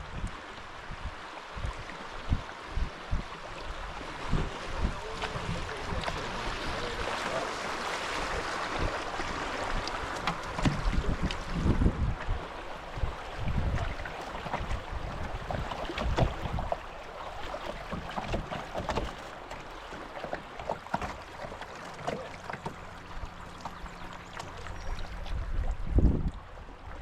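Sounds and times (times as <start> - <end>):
moving water wash: 0.0 - 27.0
paddle dipping through water: 0.1 - 27.0
splashes and low thumps: 4.0 - 27.0.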